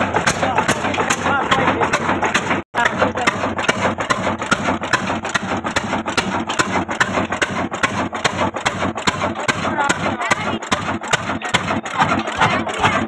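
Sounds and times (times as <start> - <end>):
diesel engine clattering: 0.0 - 13.0.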